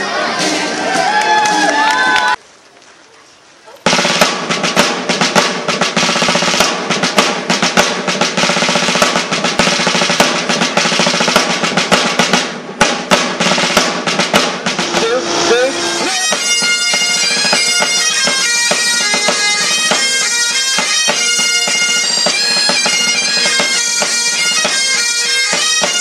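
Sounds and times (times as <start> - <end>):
snare drum rolls: 3.8 - 26.0.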